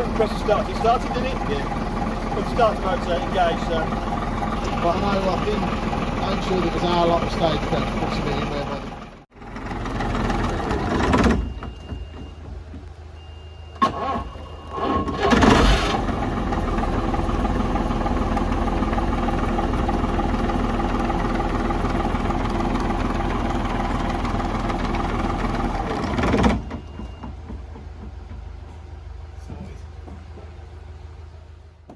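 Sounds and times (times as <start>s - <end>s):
diesel engine cranking and running: 0.0s - 31.7s.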